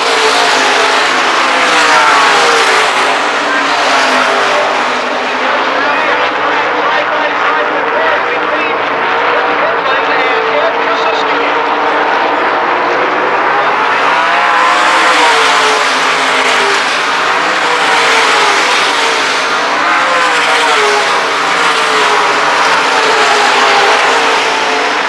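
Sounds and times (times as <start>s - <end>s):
race car engines roaring past: 0.0s - 25.0s.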